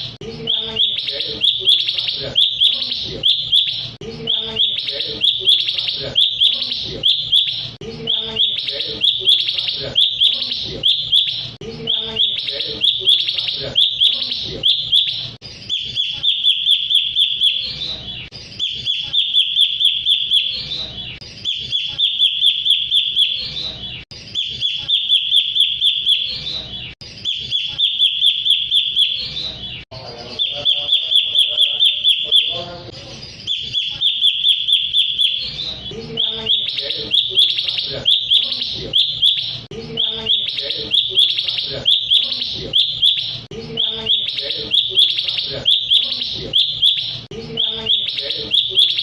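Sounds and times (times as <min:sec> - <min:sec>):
songbird chattering song: 0:00.4 - 0:32.7, 0:33.3 - 0:49.0.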